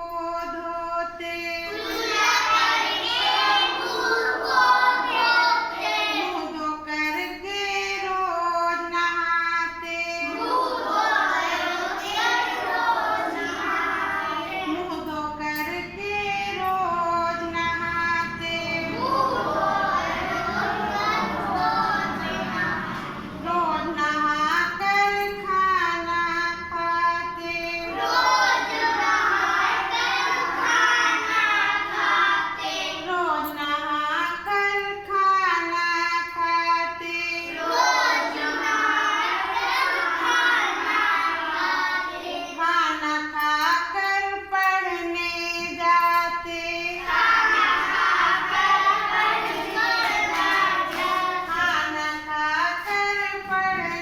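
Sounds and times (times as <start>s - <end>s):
children singing: 0.0s - 45.8s, 46.7s - 54.0s.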